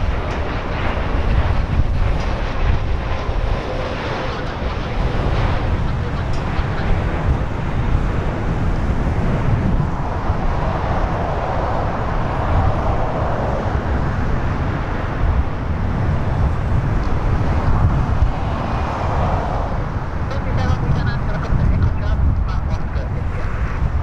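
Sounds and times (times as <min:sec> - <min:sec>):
jet passing low: 0:00.0 - 0:24.0
wind on microphone: 0:00.0 - 0:24.0.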